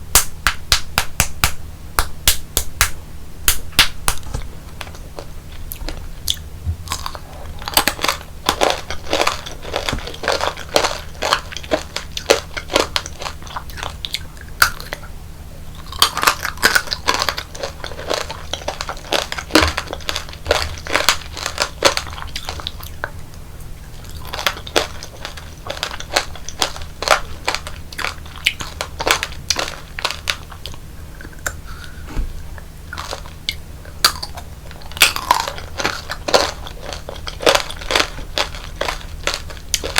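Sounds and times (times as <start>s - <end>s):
crunching and chewing candy: 0.2s - 39.9s.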